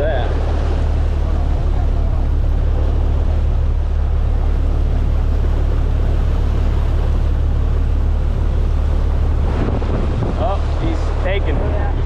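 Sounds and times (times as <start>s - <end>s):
boat engine rumbling: 0.0s - 12.0s
water rushing along hull: 0.0s - 12.0s.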